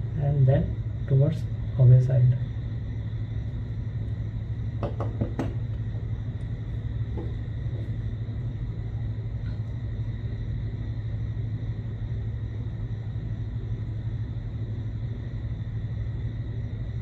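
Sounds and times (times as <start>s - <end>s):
faint high whine: 0.0s - 17.0s
steady low hum: 0.0s - 17.0s.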